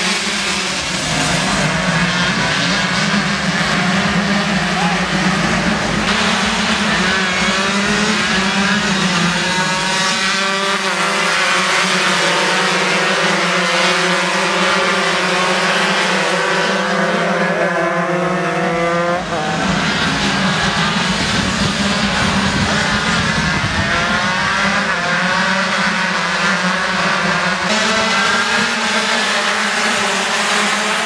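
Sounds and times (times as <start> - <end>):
racing motorcycles revving high: 0.0 - 31.0.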